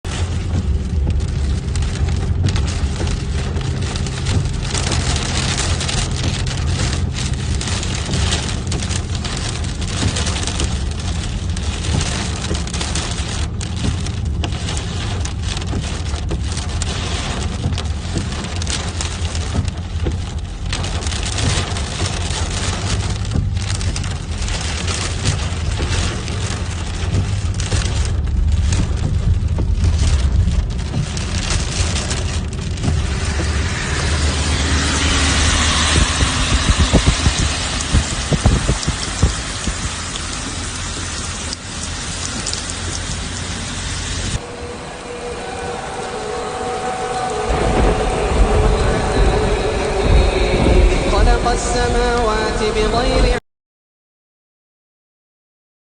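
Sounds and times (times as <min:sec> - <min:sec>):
deep rumble: 0:00.0 - 0:53.4
heavy rain hiss: 0:00.1 - 0:53.4.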